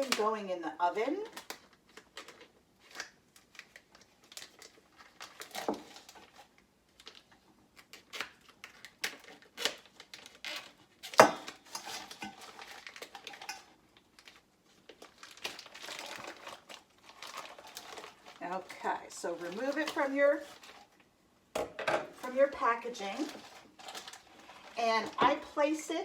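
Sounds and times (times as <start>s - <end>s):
plastic packaging crinkling: 0.0s - 0.4s, 1.0s - 21.1s, 22.1s - 26.0s.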